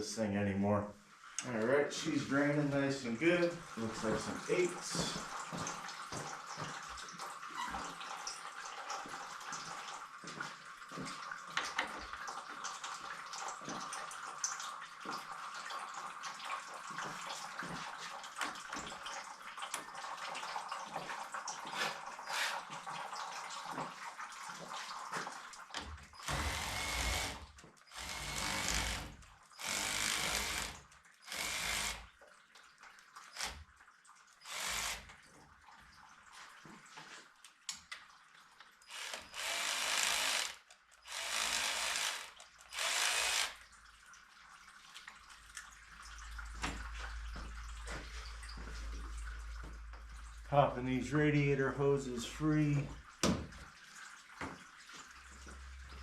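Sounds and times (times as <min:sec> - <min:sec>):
coolant trickling into pan: 0:01.1 - 0:39.4, 0:40.1 - 0:56.0.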